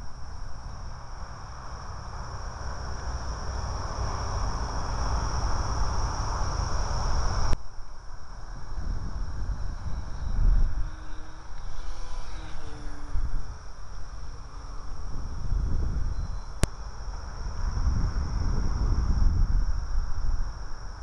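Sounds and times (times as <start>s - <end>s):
electric motor and propeller whine: 0.0s - 21.0s
wind rumble on microphone: 0.0s - 21.0s.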